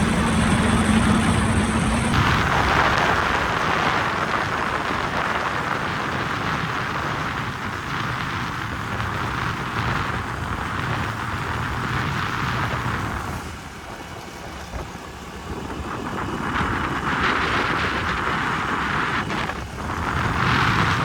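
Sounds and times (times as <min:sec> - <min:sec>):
motorbike engine rumble: 0:00.0 - 0:21.0
wind rushing: 0:00.0 - 0:21.0.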